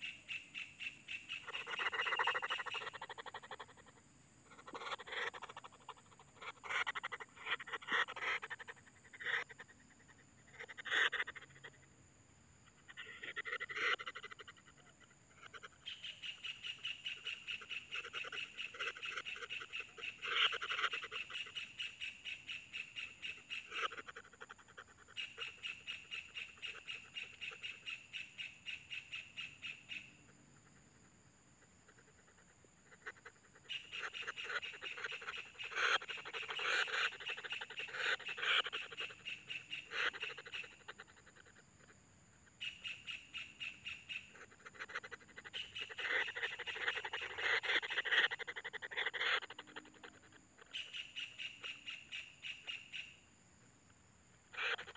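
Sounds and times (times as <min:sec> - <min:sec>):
bird chicks calling: 0:00.0 - 0:11.7, 0:12.9 - 0:30.2, 0:31.9 - 0:41.9, 0:42.5 - 0:53.2, 0:54.5 - 0:54.9.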